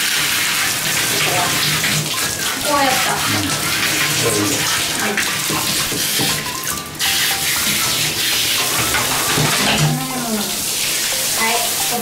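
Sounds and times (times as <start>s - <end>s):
shower water spraying and splashing: 0.0s - 12.0s
light background music: 0.8s - 12.0s.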